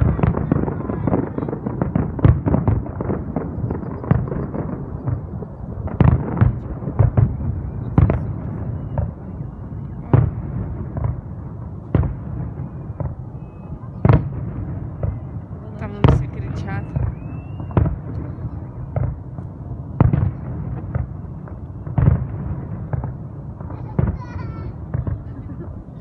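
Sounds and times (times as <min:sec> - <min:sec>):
fireworks bangs and booms: 0:00.0 - 0:26.0.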